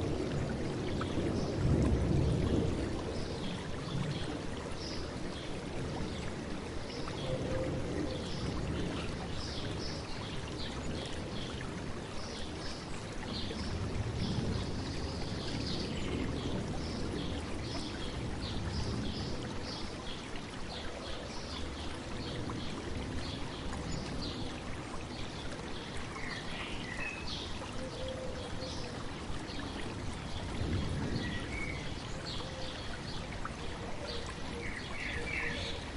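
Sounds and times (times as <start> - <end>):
river babbling over stones: 0.0 - 35.9.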